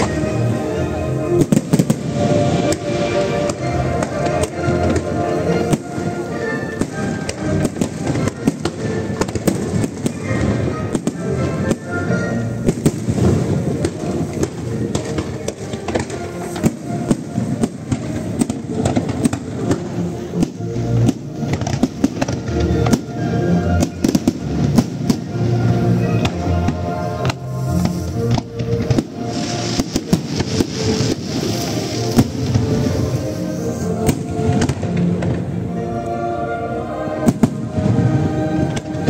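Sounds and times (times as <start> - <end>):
fireworks bursting and crackling: 0.0 - 35.7, 37.0 - 39.0
music playing: 0.0 - 39.0.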